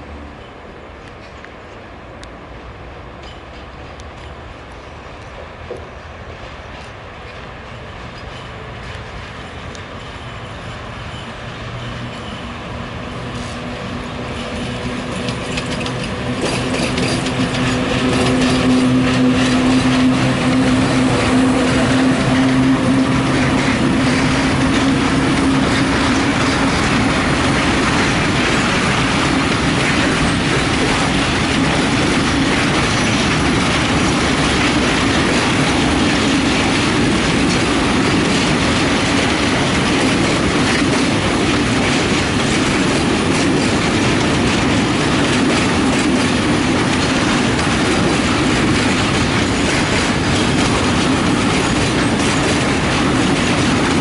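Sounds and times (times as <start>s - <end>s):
locomotive low hum: 3.0s - 54.0s
train wheels clattering on rails: 3.0s - 54.0s.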